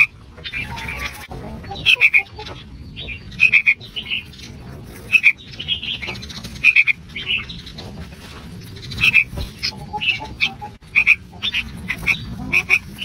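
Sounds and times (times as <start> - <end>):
nestling bird calling: 0.0 - 8.0, 8.6 - 13.0.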